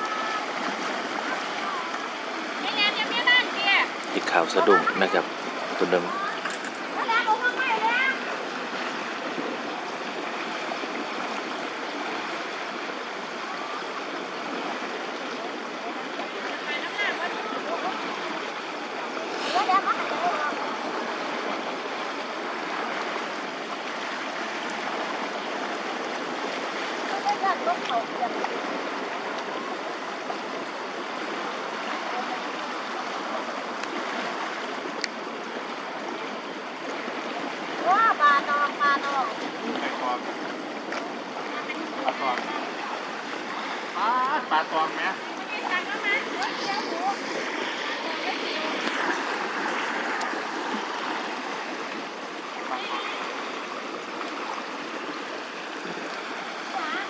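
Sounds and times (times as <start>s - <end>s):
floodwater rushing and splashing: 0.0s - 57.0s.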